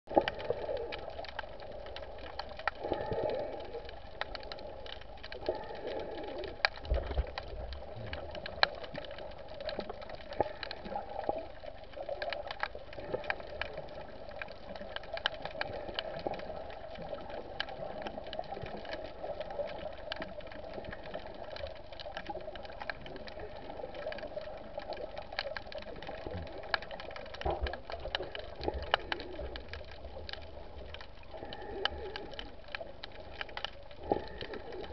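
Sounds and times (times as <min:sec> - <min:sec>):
muffled underwater hum: 0:00.1 - 0:34.9
sharp underwater clicks: 0:00.1 - 0:34.9.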